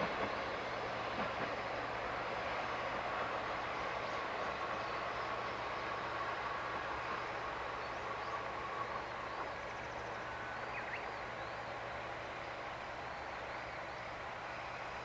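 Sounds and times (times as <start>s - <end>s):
diesel train running: 0.0s - 15.0s.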